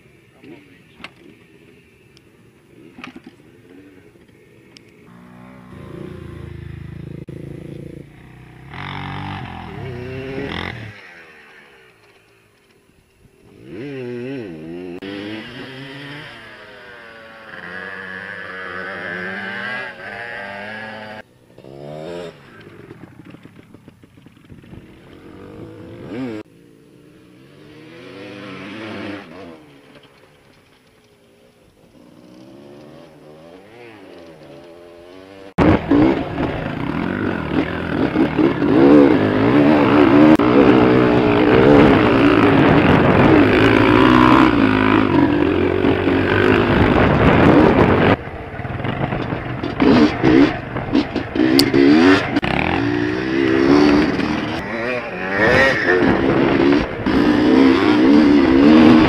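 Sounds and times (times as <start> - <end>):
dirt bike engines revving: 0.0 - 59.0
loud dirt bike engine close up: 0.0 - 59.0.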